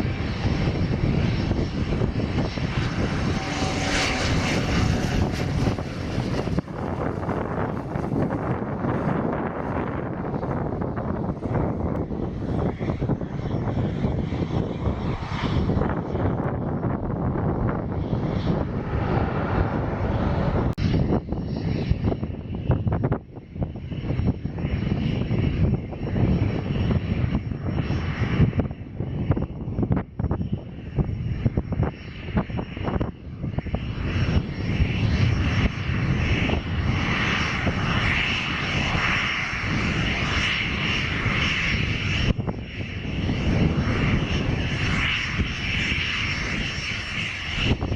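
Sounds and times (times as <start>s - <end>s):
turboprop engines whining: 0.0s - 47.9s
wind buffeting microphone: 0.0s - 47.9s.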